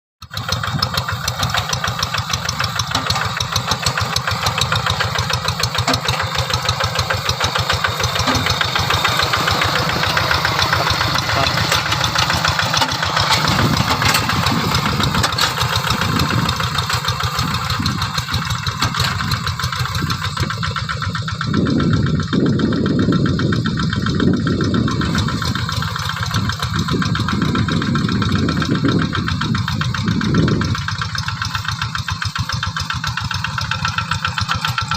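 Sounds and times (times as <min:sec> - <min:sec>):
diesel tractor engines running: 0:00.2 - 0:34.9.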